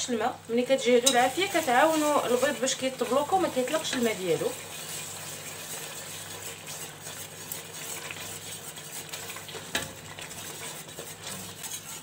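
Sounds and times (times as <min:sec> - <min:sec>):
sauce sizzling: 0:00.1 - 0:12.0
utensil scraping a steel pot: 0:01.0 - 0:12.0.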